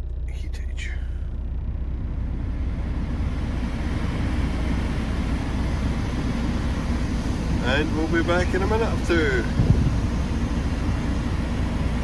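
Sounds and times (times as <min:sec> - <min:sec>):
diesel engine idling: 0:00.0 - 0:12.0
heater blower air noise: 0:02.2 - 0:12.0.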